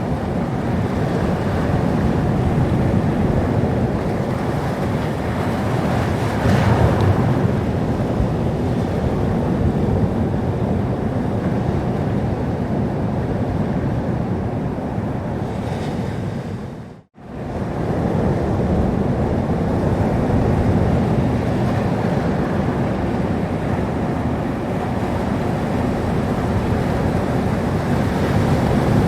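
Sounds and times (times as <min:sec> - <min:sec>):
waves breaking on shore: 0:00.0 - 0:29.0.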